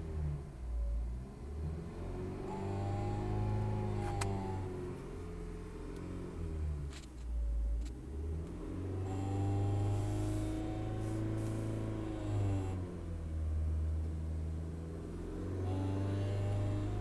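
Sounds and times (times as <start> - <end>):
car engine revving: 1.1 - 7.2, 7.8 - 17.0.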